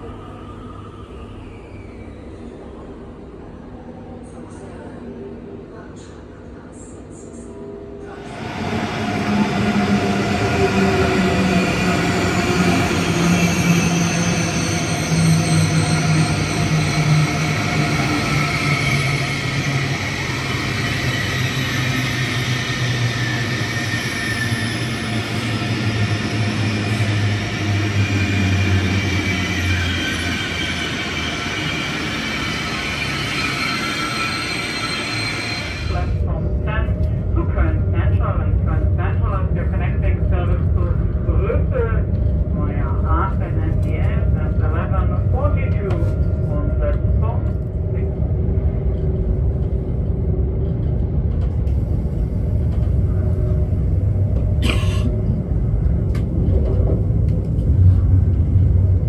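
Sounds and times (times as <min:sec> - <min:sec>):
train rolling past: 0:08.0 - 0:59.0.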